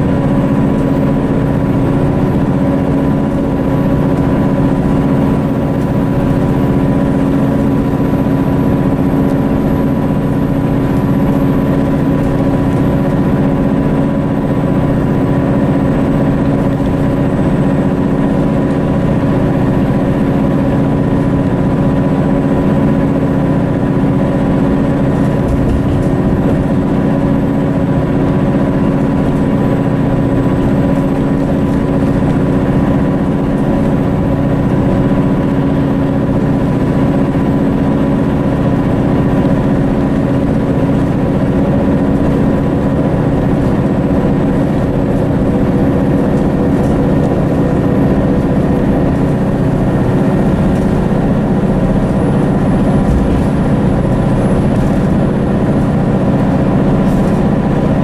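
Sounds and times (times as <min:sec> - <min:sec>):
bus diesel engine droning: 0:00.0 - 0:58.0.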